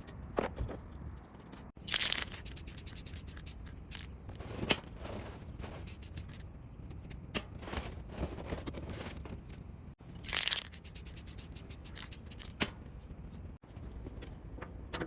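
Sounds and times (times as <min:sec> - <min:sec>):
tools scraping and clicking: 0:00.0 - 0:09.6, 0:10.2 - 0:12.8.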